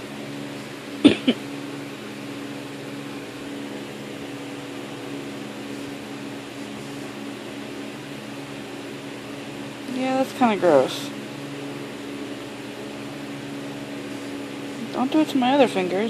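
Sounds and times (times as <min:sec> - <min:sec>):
appliance humming with hiss: 0:00.0 - 0:16.0.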